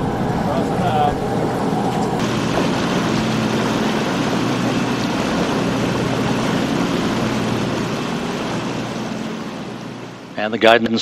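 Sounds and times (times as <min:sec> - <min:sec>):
rocket engines roaring: 0:00.0 - 0:10.7.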